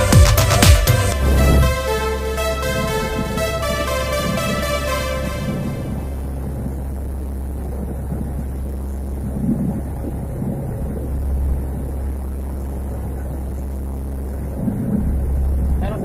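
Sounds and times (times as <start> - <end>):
turboprop engines droning: 0.0 - 16.0.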